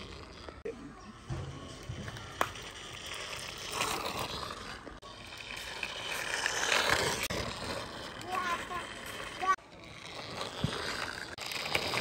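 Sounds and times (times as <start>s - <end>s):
toy truck wheels rolling on concrete: 0.0s - 12.0s.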